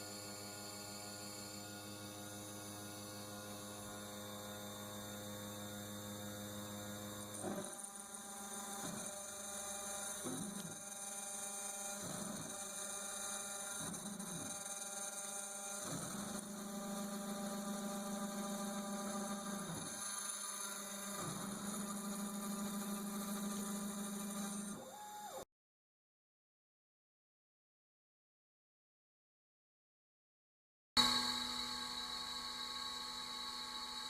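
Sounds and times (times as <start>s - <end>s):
router motor whine and hum: 0.0s - 25.5s, 31.0s - 34.0s.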